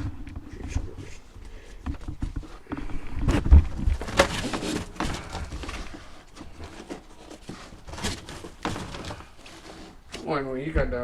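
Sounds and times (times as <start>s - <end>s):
heavy thumps: 0.0s - 11.0s.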